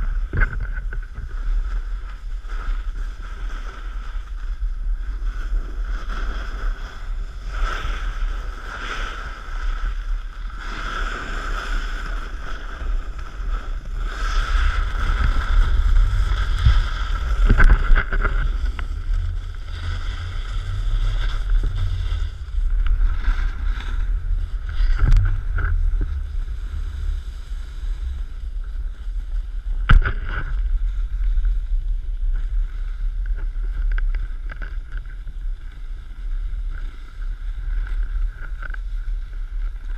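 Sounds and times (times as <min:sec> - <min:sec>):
snowboard sliding on snow: 0:00.0 - 0:39.9
wind buffeting microphone: 0:00.0 - 0:39.9.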